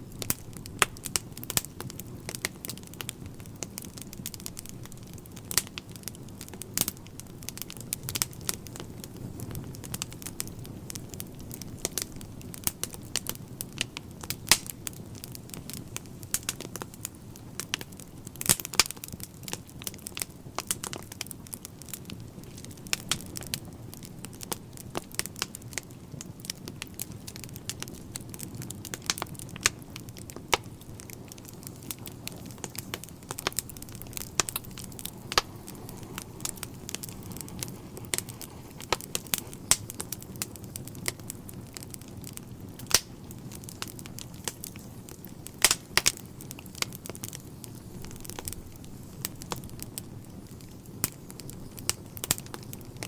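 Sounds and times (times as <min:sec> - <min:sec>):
logs crackling and popping: 0:00.0 - 0:53.0
low hiss of flames: 0:00.0 - 0:53.0.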